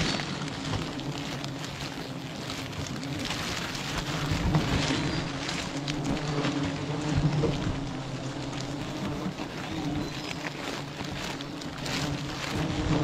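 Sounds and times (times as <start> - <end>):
bees humming: 0.0 - 13.0
plastic bag crackling: 0.0 - 13.0.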